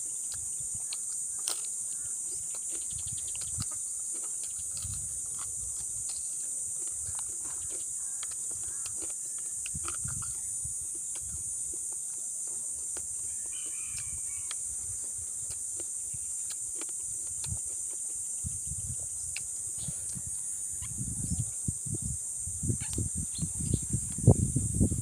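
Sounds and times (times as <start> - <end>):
man chewing crunchy food: 0.0 - 21.9
insects droning: 0.0 - 25.0.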